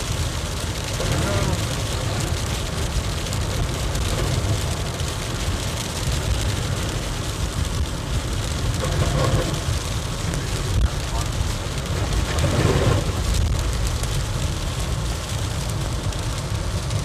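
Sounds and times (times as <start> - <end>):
rain and hail on car: 0.0 - 17.0
tyres rumbling on slushy road: 0.0 - 17.0.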